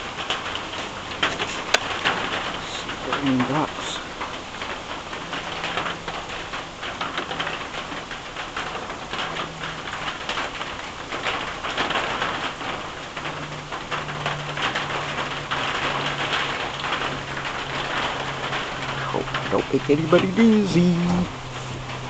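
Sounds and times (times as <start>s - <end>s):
rain on a roof: 0.0s - 22.0s.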